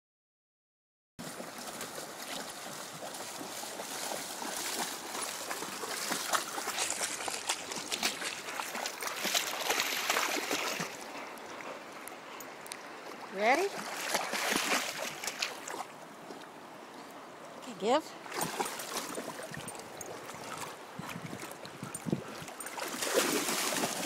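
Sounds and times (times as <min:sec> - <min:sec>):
dogs splashing through water: 0:01.2 - 0:16.6, 0:18.2 - 0:24.0
river water rushing: 0:01.2 - 0:24.0.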